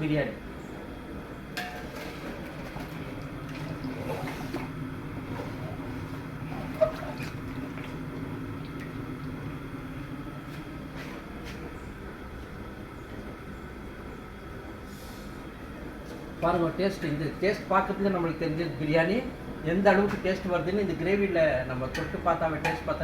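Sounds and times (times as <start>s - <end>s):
pot cooking on fire rumble: 0.0s - 23.0s.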